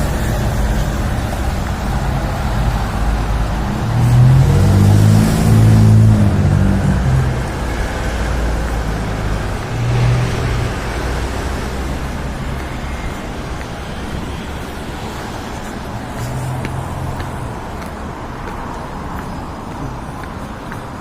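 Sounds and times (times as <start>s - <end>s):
rumble of passing cars: 0.0s - 21.0s.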